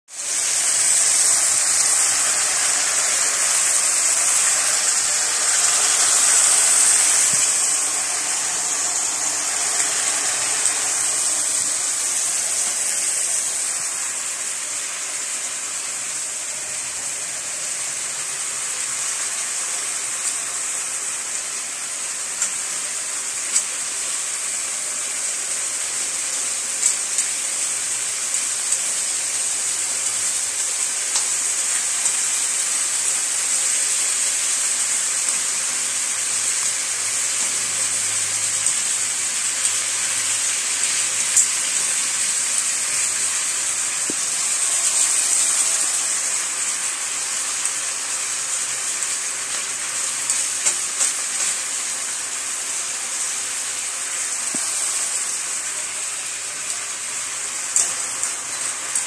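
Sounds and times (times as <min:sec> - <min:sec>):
meat sizzling in oil: 0:00.1 - 0:59.0.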